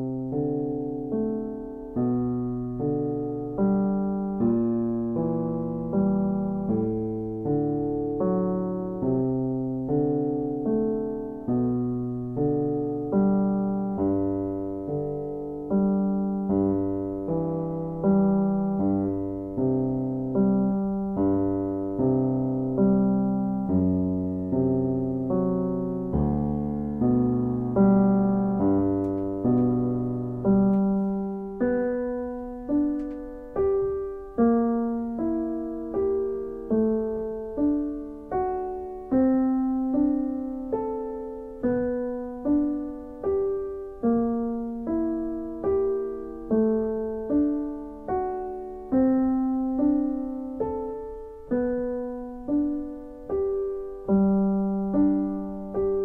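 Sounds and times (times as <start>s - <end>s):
slow solo piano: 0.0s - 56.0s.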